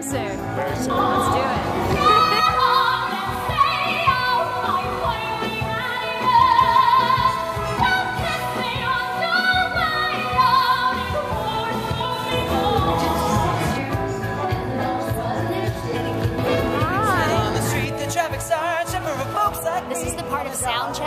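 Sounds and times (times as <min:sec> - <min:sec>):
band accompaniment: 0:00.0 - 0:21.0.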